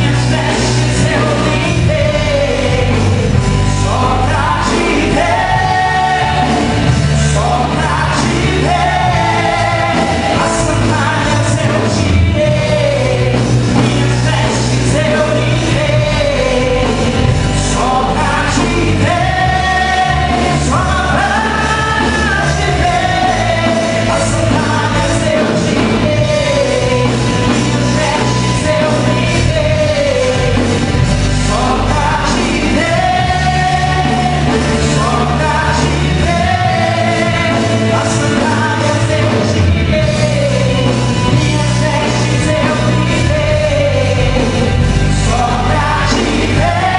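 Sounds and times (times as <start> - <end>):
gospel band playing: 0.0 - 46.9
person singing: 0.0 - 46.9.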